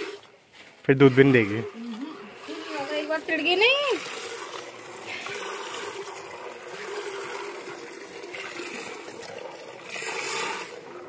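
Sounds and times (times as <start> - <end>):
milk squirting into a pail: 0.0 - 11.0.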